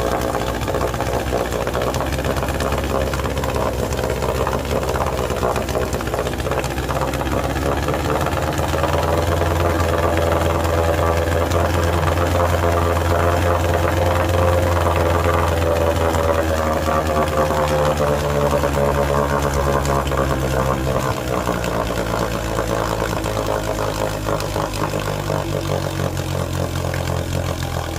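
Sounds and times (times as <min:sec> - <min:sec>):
outboard motor running: 0:00.0 - 0:27.9.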